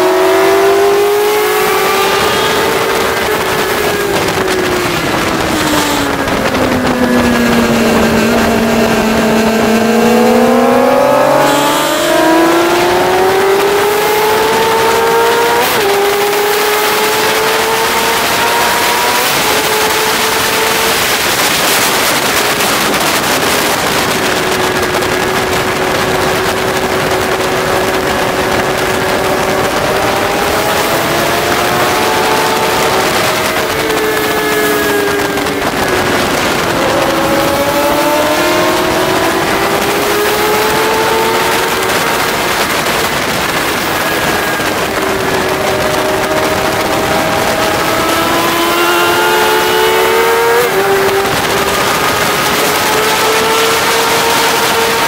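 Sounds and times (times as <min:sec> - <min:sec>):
heavy wind rush: 0:00.0 - 0:55.0
motorcycle engine at speed: 0:00.0 - 0:55.0.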